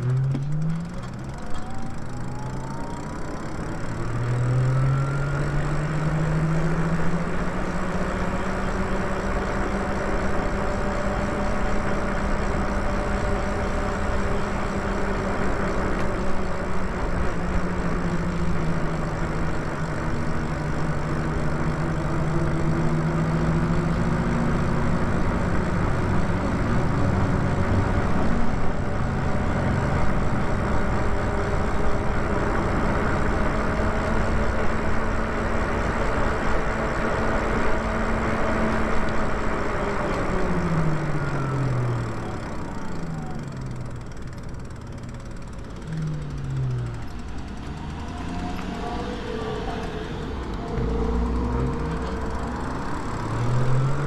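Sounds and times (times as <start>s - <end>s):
electric bike hum-whine: 0.0s - 54.0s.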